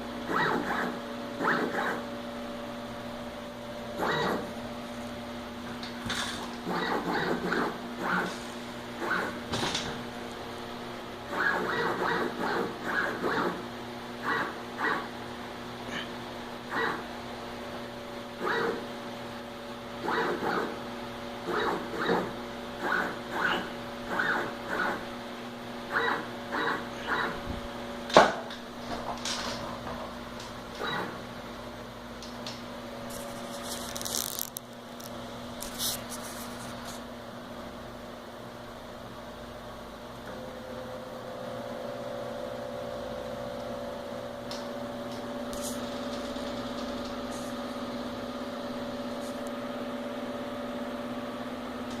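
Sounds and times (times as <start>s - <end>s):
machine motors humming and whining: 0.0s - 52.0s.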